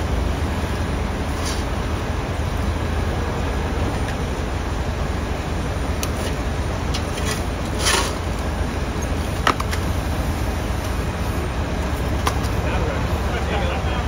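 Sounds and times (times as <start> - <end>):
idling vehicles rumble: 0.0 - 14.0.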